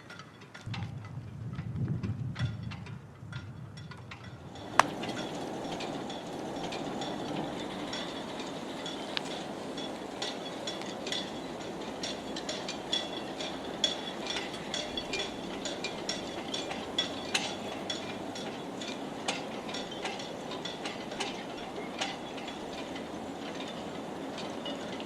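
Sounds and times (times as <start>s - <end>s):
halyards clinking against metal masts: 0.0s - 25.0s
water and wind rushing: 0.7s - 25.0s.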